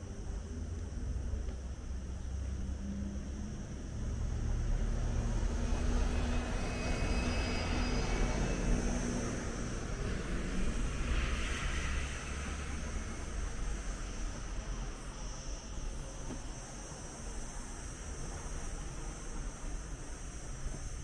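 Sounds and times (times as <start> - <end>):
bus engine humming: 0.0 - 21.0.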